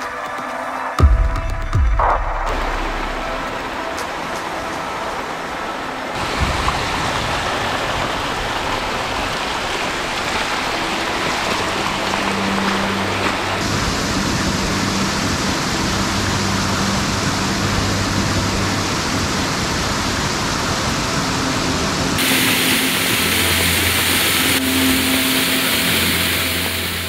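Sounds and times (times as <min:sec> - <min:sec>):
rushing mountain stream: 0:00.0 - 0:27.0.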